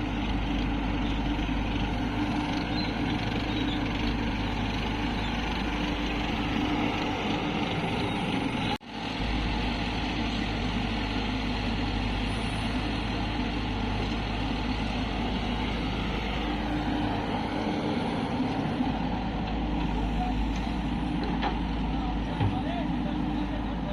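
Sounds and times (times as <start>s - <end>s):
excavator diesel engine running: 0.0s - 23.9s
tractor engines running: 0.0s - 23.9s.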